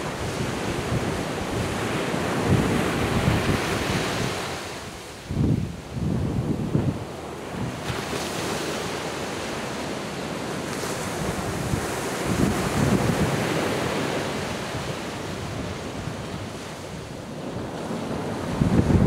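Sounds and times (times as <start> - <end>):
wind buffeting microphone: 0.0 - 8.6, 10.7 - 19.0
waves washing up beach: 0.0 - 19.0.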